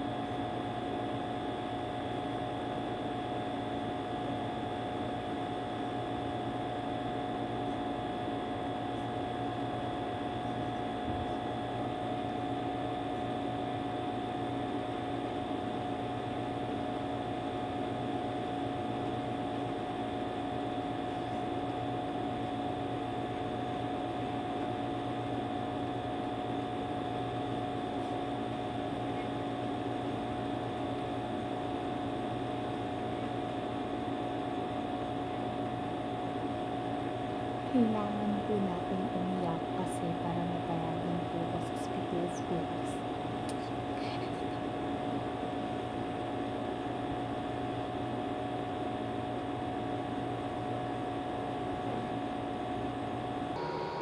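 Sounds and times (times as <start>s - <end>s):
electrical appliance hum: 0.0s - 54.0s.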